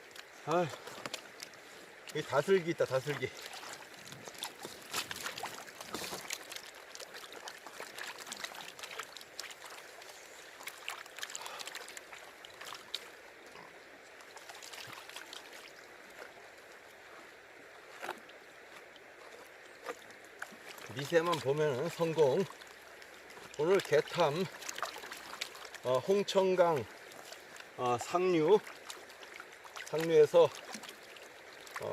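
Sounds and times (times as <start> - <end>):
water sloshing in a pan: 0.0 - 17.2, 17.9 - 31.9
river washing: 0.0 - 31.9
small splashes and clicks: 0.0 - 31.9.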